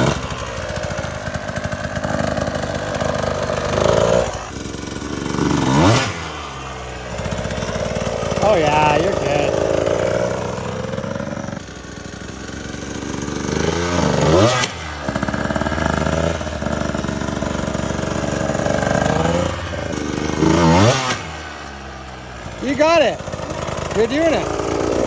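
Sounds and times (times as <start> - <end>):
two-stroke dirt bike engine revving: 0.0 - 25.0.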